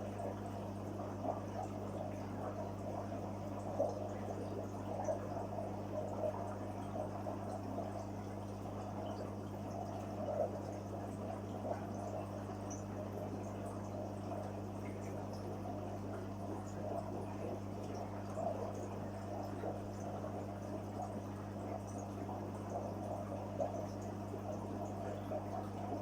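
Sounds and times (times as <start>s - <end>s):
low electrical hum: 0.0s - 26.0s
water bubbling and trickling: 0.1s - 26.0s.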